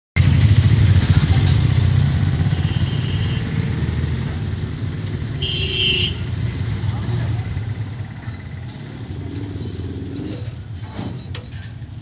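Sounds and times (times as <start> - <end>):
vehicle engine rumbling: 0.2 - 12.0.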